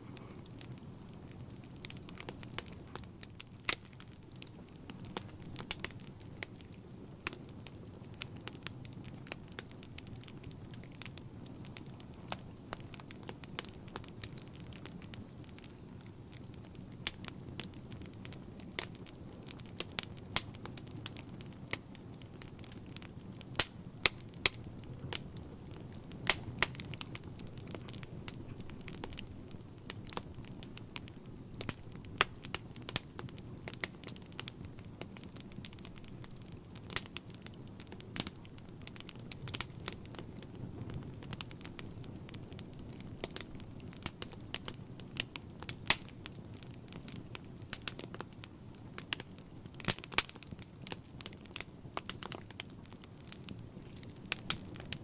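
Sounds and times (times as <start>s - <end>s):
fire burning rumble: 0.0s - 55.0s
wood fire pops and snaps: 0.0s - 55.0s.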